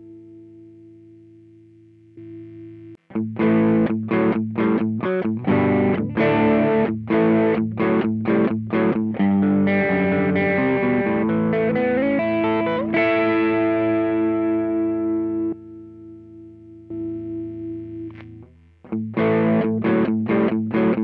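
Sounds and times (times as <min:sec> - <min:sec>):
overdriven electric guitar riff: 0:02.2 - 0:21.0.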